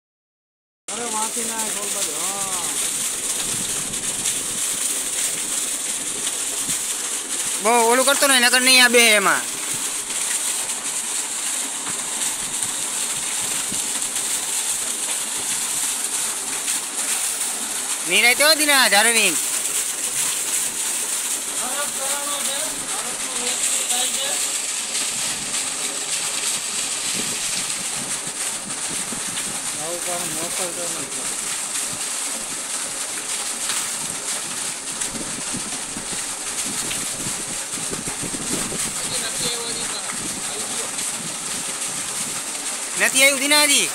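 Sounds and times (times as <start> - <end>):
water pouring into well: 0.9 - 43.9.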